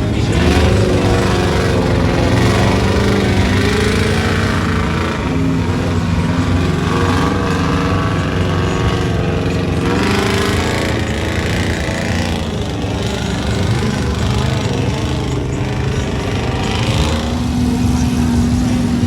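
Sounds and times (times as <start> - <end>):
truck engines revving loudly: 0.0 - 19.0.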